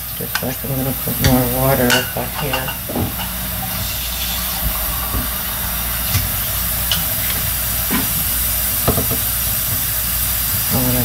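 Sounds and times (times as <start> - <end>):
steady hiss: 0.0 - 11.0
low hum: 0.8 - 10.6.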